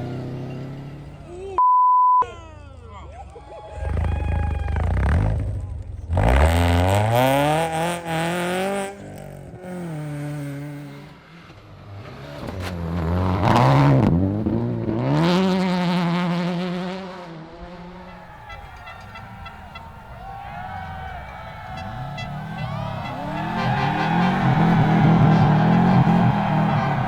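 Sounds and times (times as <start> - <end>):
rally car engine at full throttle: 0.0 - 1.4, 3.8 - 27.0.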